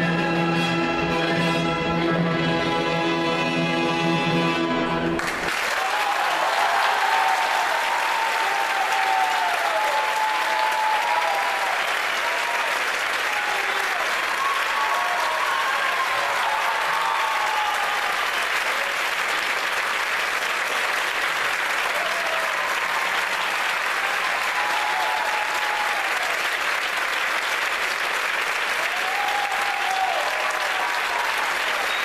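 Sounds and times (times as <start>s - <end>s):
audience applauding: 5.2s - 32.0s
audience cheering: 5.2s - 32.0s.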